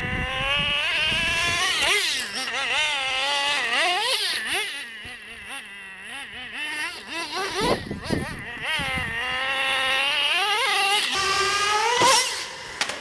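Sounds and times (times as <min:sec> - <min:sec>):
rc truck engine revving: 0:00.0 - 0:13.0.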